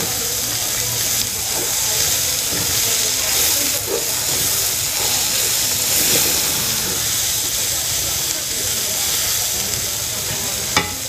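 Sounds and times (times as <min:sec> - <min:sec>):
greens sizzling in a pot: 0:00.0 - 0:11.0.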